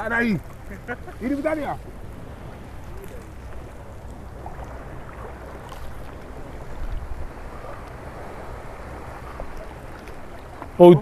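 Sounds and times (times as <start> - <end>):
sea water lapping: 0.0 - 11.0
wind on microphone: 0.0 - 11.0.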